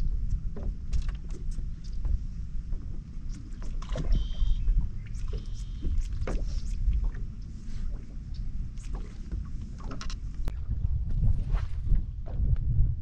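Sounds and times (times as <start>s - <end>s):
water lapping against boat: 0.0s - 12.5s
wind rumbling on microphone: 0.0s - 13.0s.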